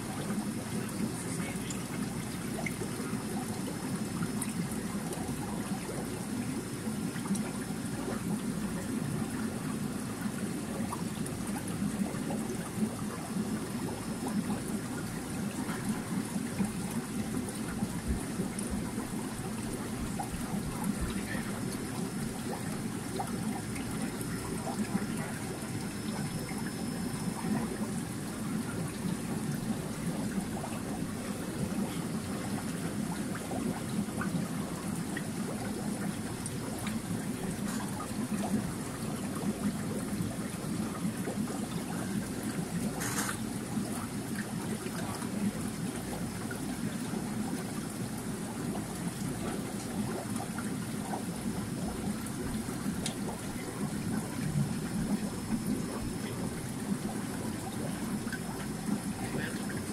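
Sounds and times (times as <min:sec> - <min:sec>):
aquarium water trickling: 0:00.0 - 0:59.9.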